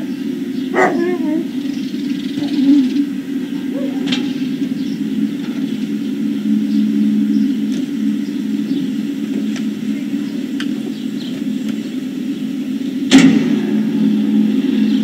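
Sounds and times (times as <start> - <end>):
faint bird chirps: 0.0 - 12.8
steady low hum: 0.0 - 15.0.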